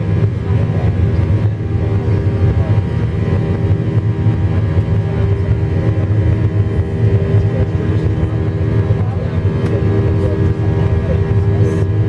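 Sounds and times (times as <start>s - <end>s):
plane engines droning: 0.0s - 12.0s.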